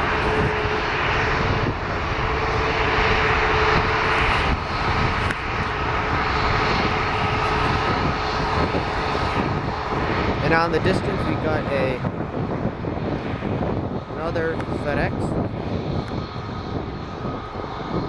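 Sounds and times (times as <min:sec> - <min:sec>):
distant jet engines whining: 0:00.0 - 0:18.0.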